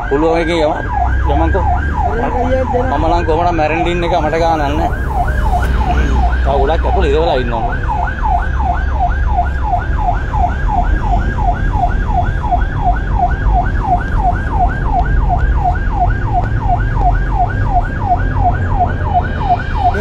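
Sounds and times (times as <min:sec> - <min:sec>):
ambulance siren yelping: 0:00.0 - 0:20.0
low rumble of vehicle: 0:00.0 - 0:20.0.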